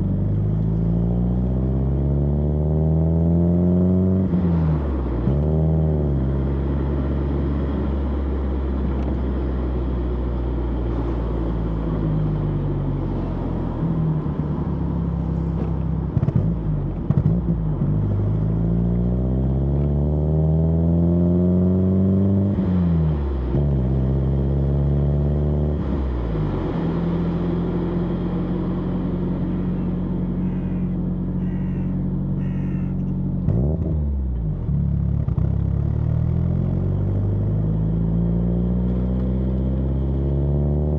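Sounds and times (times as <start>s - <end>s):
car engine exhaust: 0.0s - 40.9s.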